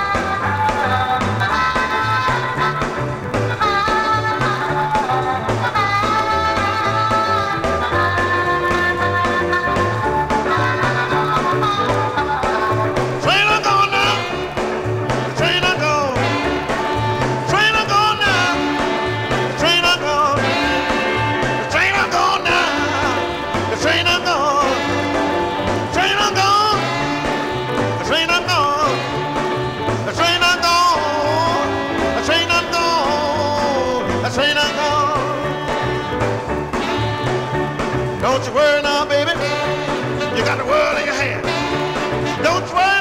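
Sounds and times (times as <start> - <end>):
band with repeating bass line: 0.0 - 43.0
blues harmonica wailing: 0.0 - 43.0.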